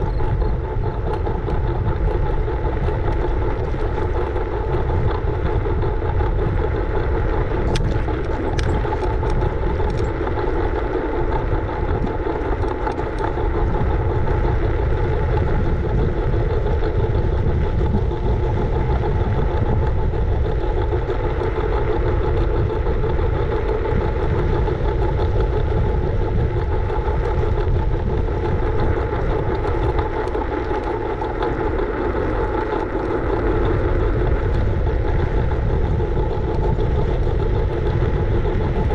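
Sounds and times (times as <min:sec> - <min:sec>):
sharp clicks and rattles: 0:00.0 - 0:38.9
steady whine: 0:00.0 - 0:38.9
wind rumble on microphone: 0:00.0 - 0:38.9.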